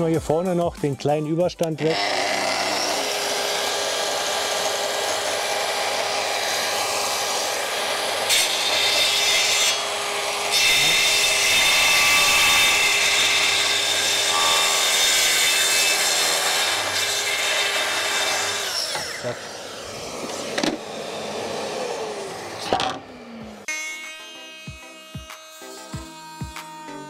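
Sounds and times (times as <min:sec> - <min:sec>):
circular saw cutting wood: 0:01.7 - 0:27.0.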